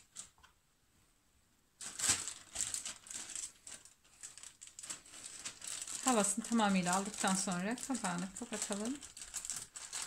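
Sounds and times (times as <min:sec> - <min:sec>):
plastic bag crinkling: 0:01.8 - 0:10.0.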